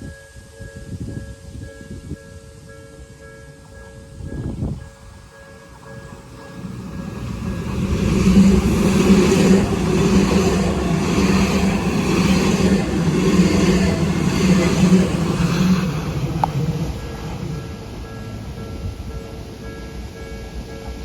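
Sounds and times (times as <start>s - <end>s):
faint level-crossing warning bell: 0.0s - 21.0s
train rumble: 0.0s - 21.0s.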